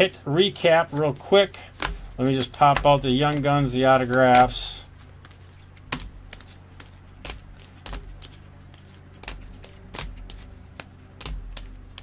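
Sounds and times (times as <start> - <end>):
low steady hum: 0.0 - 12.0
cards clicking and tapping: 0.1 - 12.0.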